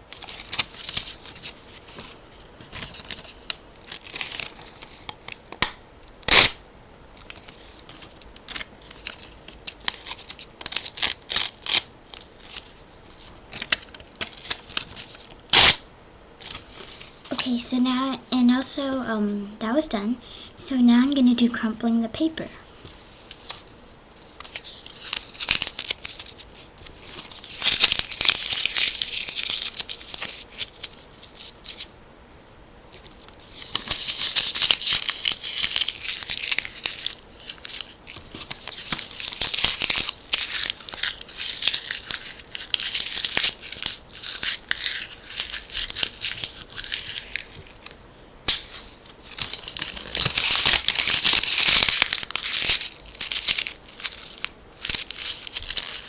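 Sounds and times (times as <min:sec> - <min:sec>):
paper being crumpled: 0:00.1 - 0:05.7, 0:07.2 - 0:15.8, 0:16.4 - 0:17.4, 0:22.6 - 0:31.9, 0:32.9 - 0:56.0.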